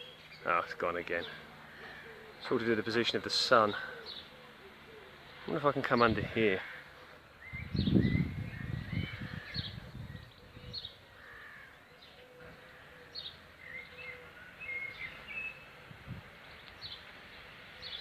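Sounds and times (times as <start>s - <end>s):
faint outdoor hiss: 0.0s - 18.0s
small birds chirping: 0.0s - 18.0s.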